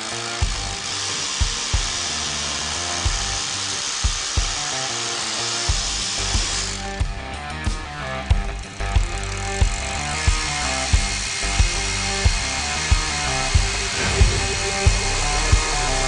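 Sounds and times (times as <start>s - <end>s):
rotary hammer drilling: 0.0s - 16.0s
background music with beat: 0.4s - 4.9s, 5.7s - 16.0s.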